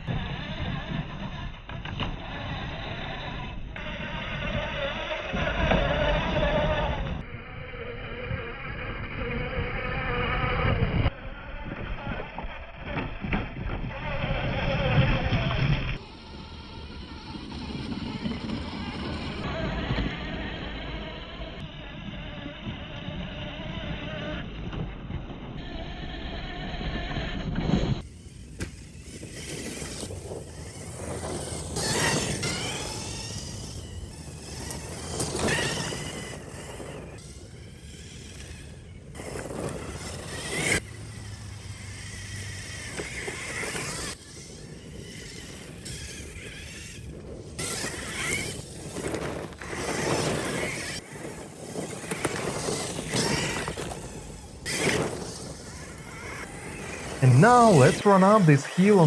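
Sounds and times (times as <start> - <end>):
rc truck motor whining: 0.0 - 57.2.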